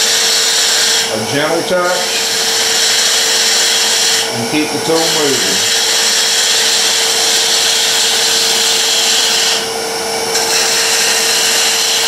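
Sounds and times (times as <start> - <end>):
tool cutting wood hiss: 0.0 - 12.0
wood lathe humming: 0.0 - 12.0.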